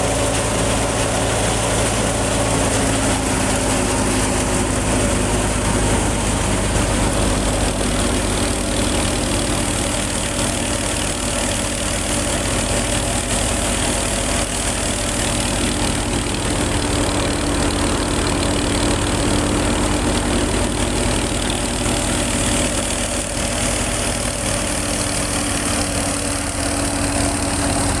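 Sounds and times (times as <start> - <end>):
threshing machine running: 0.0 - 28.0.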